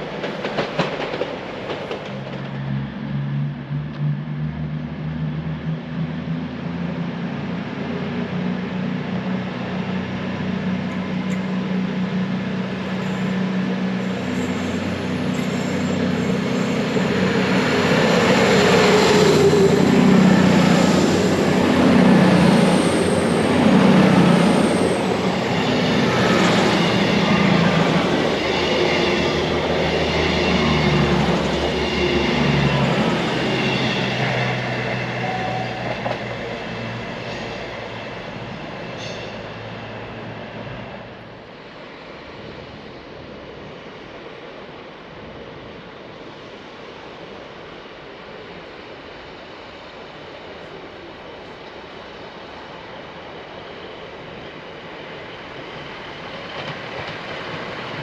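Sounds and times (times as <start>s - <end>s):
train running past on rails: 0.0s - 58.0s.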